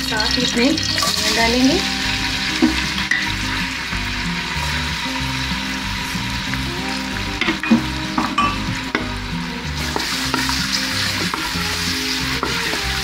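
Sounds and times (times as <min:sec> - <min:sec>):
background music: 0:00.0 - 0:13.0
onions sizzling in hot oil: 0:00.0 - 0:13.0.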